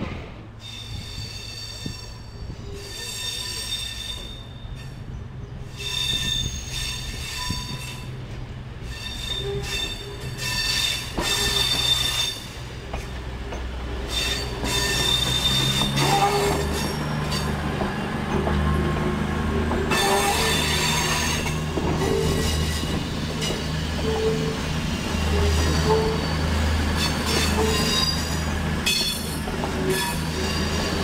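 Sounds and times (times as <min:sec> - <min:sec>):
train wheel flanges squealing: 0:00.6 - 0:31.0.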